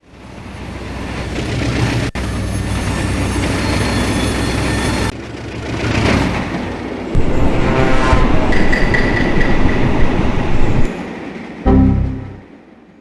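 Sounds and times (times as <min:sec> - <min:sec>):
train wheels rushing on rails: 0:00.1 - 0:11.5.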